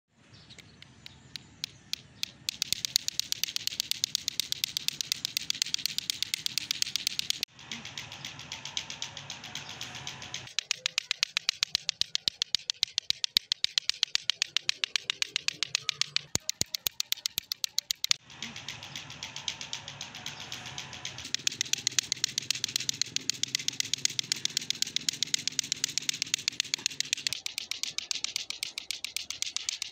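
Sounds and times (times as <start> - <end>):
clacker toy balls clacking: 0.6 - 29.9.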